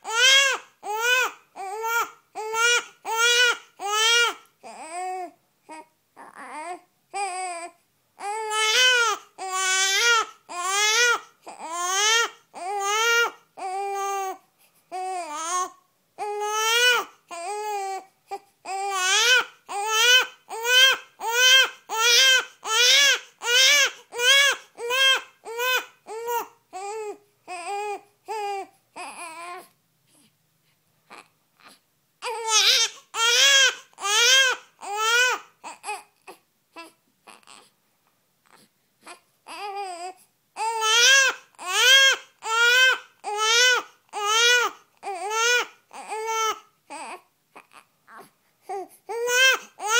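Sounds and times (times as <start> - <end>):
newborn baby crying: 0.0 - 30.3, 31.0 - 37.8, 38.4 - 49.9.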